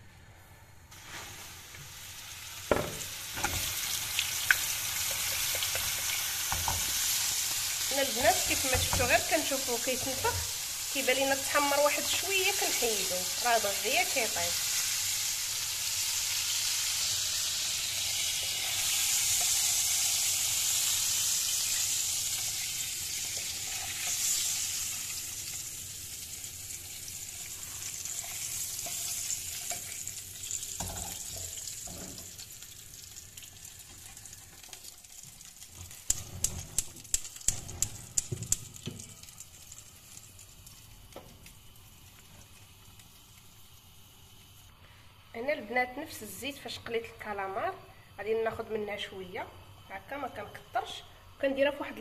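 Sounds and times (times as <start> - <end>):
food sizzling in hot oil: 0.9 - 52.0.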